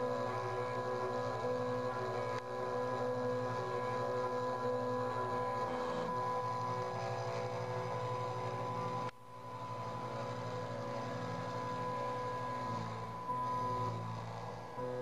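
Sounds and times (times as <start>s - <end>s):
spindle motor whine: 0.0s - 15.0s
stepper motor tones: 0.0s - 15.0s.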